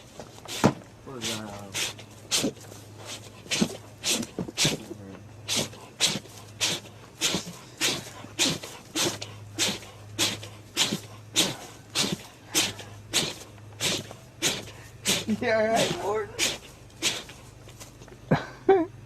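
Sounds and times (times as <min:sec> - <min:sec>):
animal sneezing: 0:00.5 - 0:17.5.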